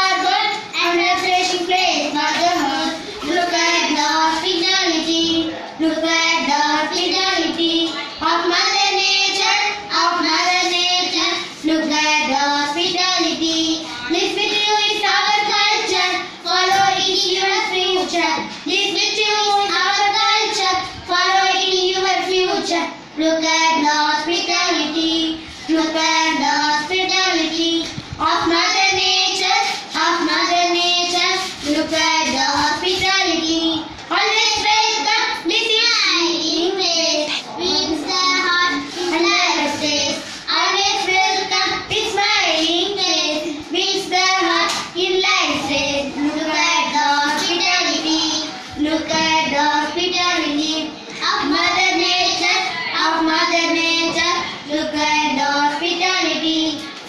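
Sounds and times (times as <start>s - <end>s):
child singing: 0.0s - 57.0s.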